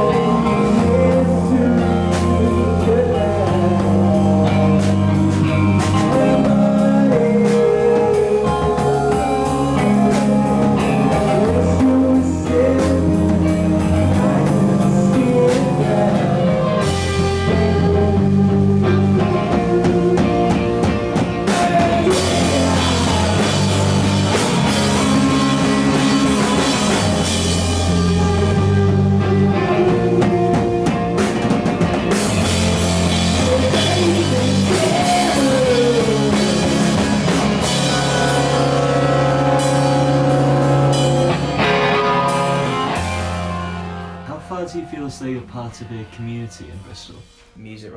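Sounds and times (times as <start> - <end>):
person singing: 0.0 - 31.6, 32.3 - 43.0
bass line: 0.0 - 47.2
distorted guitars: 0.0 - 47.6
drum kit: 0.0 - 47.9.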